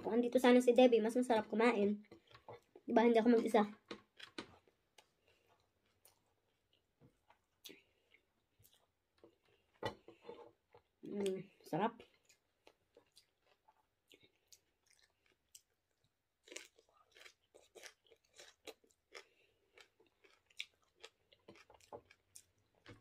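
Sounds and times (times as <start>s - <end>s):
person chewing: 3.8s - 23.0s.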